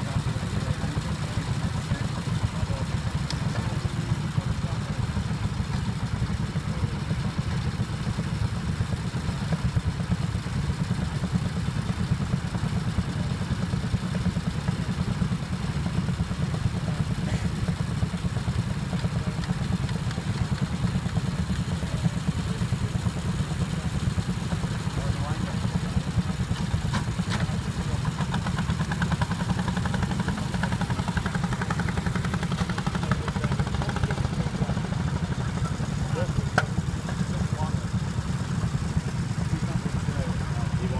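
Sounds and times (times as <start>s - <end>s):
walk-behind tractor engine running: 0.0s - 40.9s.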